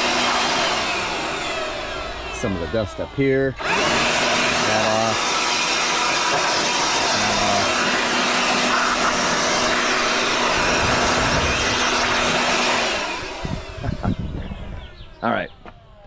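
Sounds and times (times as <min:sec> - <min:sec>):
blower rush of air: 0:00.0 - 0:15.2.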